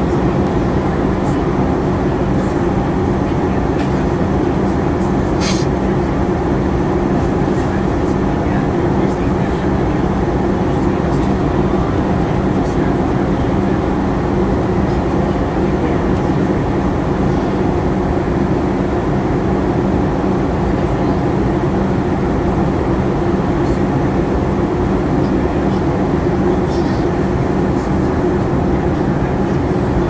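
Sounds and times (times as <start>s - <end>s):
airplane cabin airflow rush: 0.0s - 30.0s
jet engines humming: 0.0s - 30.0s.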